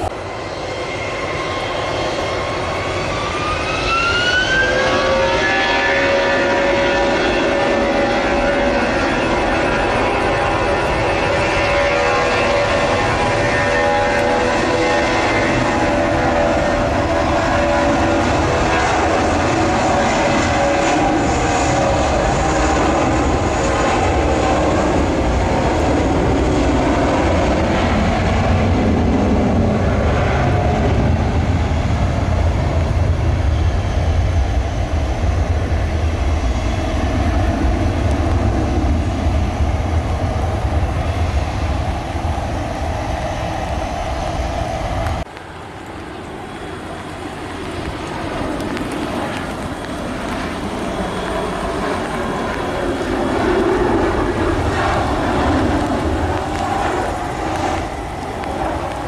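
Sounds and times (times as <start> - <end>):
distant jet hum: 0.0 - 59.0
jet engines rumbling: 0.0 - 59.0.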